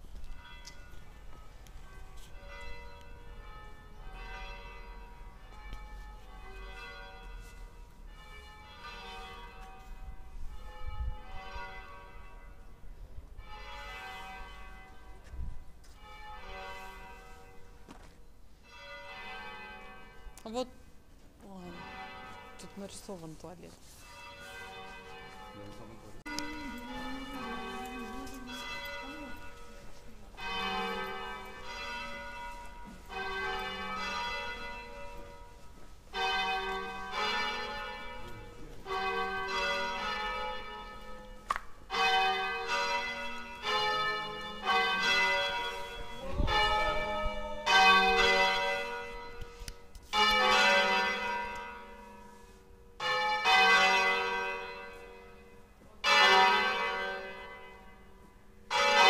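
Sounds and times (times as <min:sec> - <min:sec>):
church bells ringing: 0:00.0 - 0:59.0.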